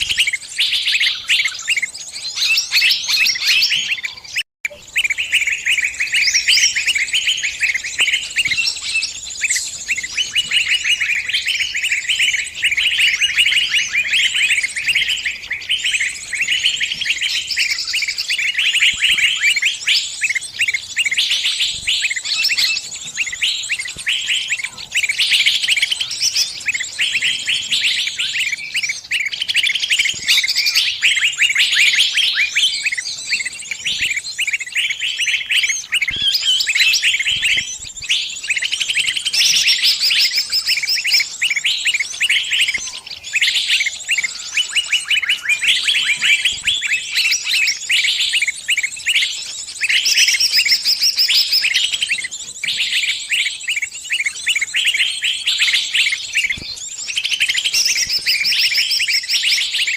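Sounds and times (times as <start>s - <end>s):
small bird distress chirping: 0.0s - 59.9s.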